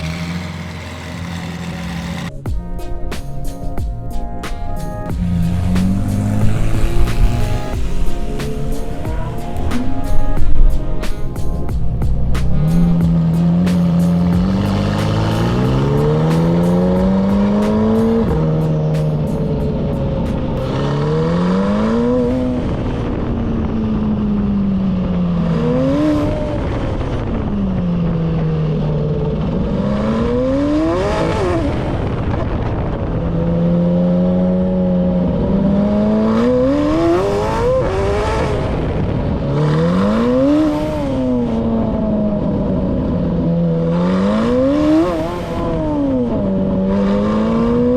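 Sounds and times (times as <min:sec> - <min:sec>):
car engine accelerating hard: 0:00.0 - 0:02.4, 0:05.1 - 0:10.7, 0:11.4 - 0:47.9.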